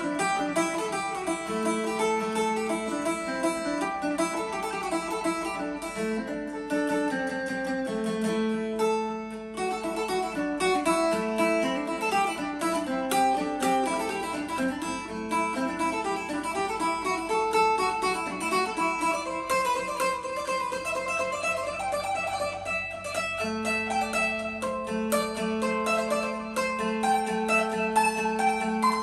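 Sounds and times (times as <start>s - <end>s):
plucked lute melody: 0.0s - 29.0s.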